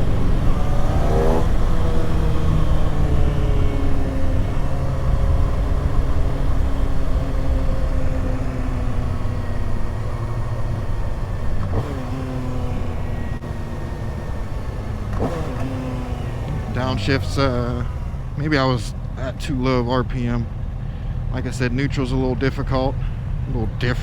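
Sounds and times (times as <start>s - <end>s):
downshift rev blips: 0.0s - 24.0s
motorcycle engine at low revs: 0.0s - 24.0s.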